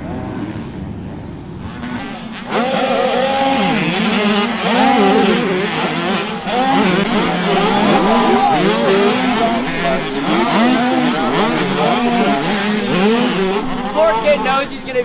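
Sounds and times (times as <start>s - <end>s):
dirt-bike engines revving: 0.0s - 15.0s.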